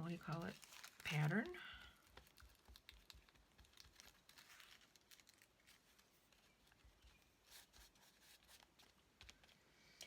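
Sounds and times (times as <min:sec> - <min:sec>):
paper rustling: 0:00.0 - 0:09.6.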